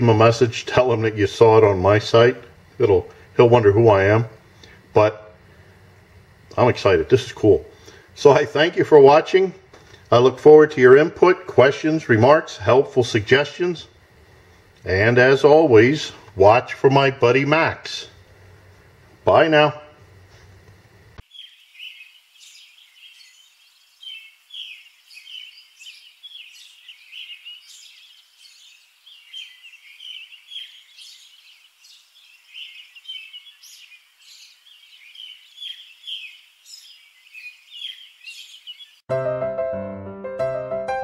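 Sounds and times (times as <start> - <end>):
birds chirping: 0.0 - 18.2, 21.2 - 39.1.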